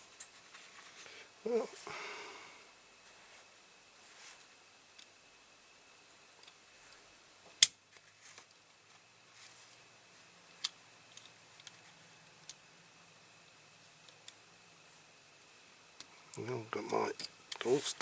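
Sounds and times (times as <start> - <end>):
faint high whine: 0.0 - 7.5, 8.1 - 18.0.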